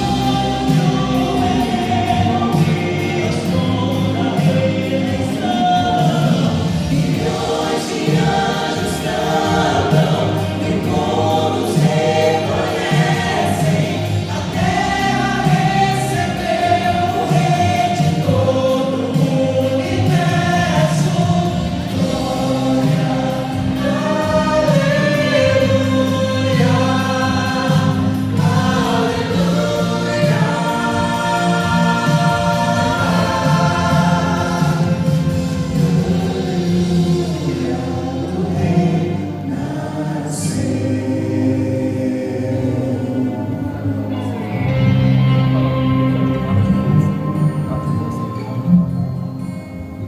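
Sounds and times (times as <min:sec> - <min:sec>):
group singing gospel song: 0:00.0 - 0:49.0
low musical accompaniment: 0:00.0 - 0:50.0.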